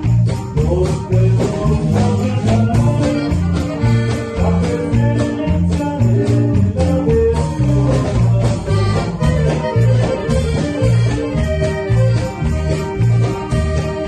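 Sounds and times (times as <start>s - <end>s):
accordion melody: 0.0s - 14.0s
alternating bass line: 0.0s - 14.0s.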